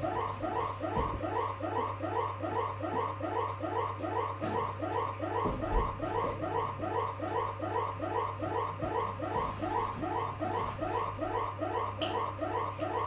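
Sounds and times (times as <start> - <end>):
electronic alarm chirps: 0.0 - 13.0.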